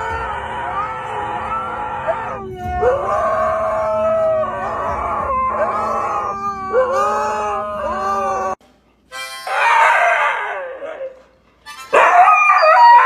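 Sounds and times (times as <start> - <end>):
dog howling: 0.0 - 8.6, 9.5 - 11.3, 12.0 - 13.0.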